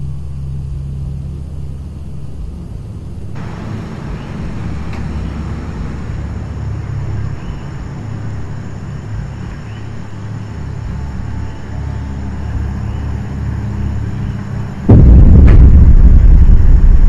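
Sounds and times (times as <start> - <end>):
low rumble of street ambience: 0.0 - 17.0.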